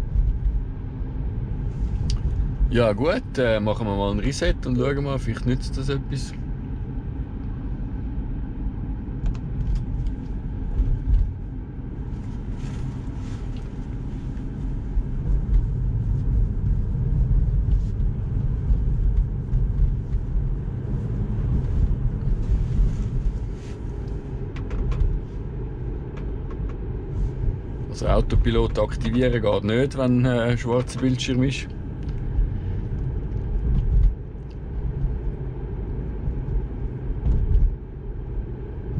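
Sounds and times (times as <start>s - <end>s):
road and tyre rumble in car: 0.0s - 38.9s.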